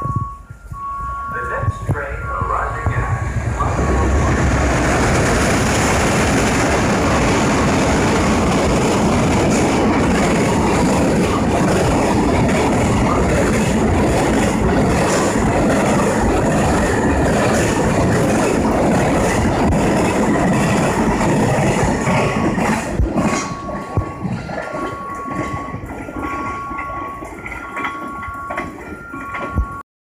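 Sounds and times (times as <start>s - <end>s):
freight wagons rumbling: 0.0s - 29.8s
wheels clattering over rail joints: 3.3s - 29.8s.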